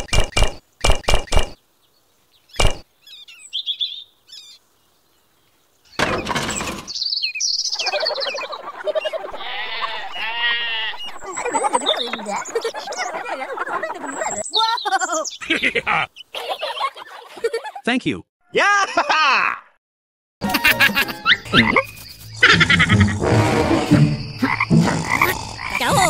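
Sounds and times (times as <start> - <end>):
birds chirping: 0.0 - 17.8, 20.4 - 26.0.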